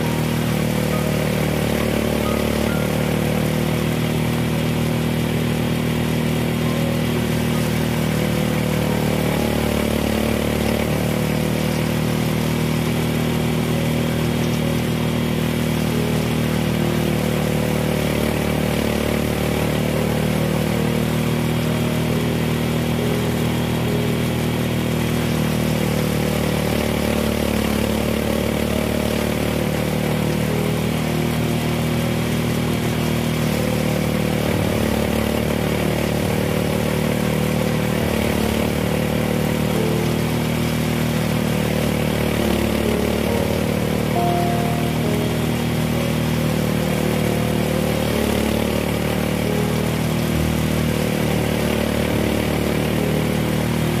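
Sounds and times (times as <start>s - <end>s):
small harvester engine running: 0.0s - 54.0s.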